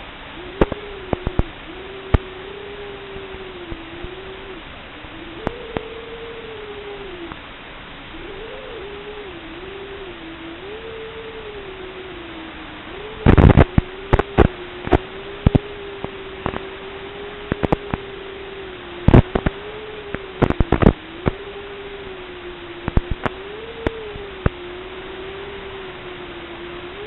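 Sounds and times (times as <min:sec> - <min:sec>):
steady hiss: 0:00.0 - 0:27.0
wavering hum tone: 0:00.0 - 0:27.0.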